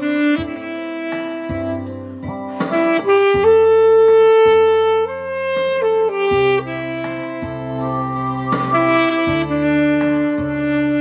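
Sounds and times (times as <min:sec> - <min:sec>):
alto saxophone melody: 0:00.0 - 0:11.0
backing track with bass line: 0:00.0 - 0:11.0.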